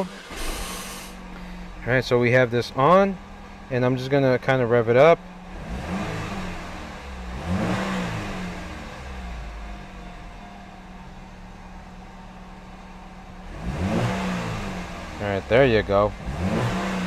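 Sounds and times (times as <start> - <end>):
car engine idling: 0.0 - 17.0
car engine revving: 0.0 - 17.0.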